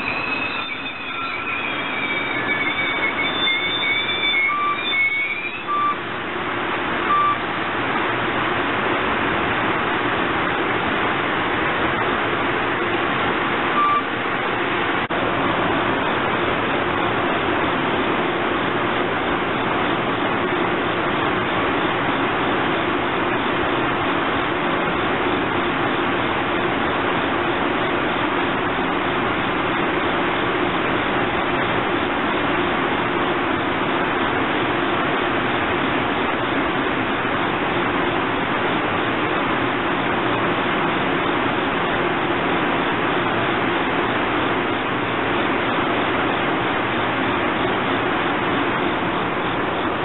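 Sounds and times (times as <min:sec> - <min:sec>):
standing train hum and hiss: 0:00.0 - 0:50.0.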